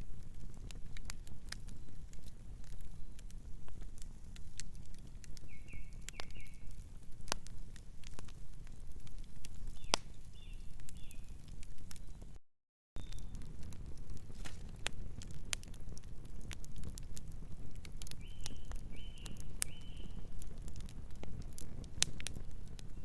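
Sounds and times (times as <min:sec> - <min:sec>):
wood fire crackling and popping: 0:00.0 - 0:12.4, 0:13.0 - 0:23.0.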